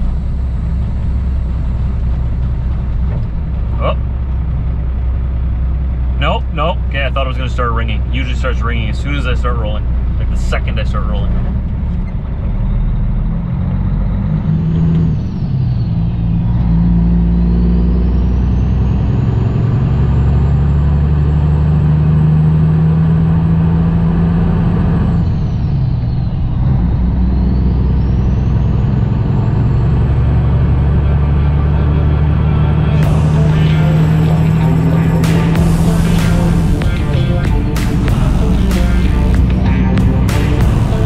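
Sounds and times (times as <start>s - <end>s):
truck diesel engine running: 0.0s - 41.0s.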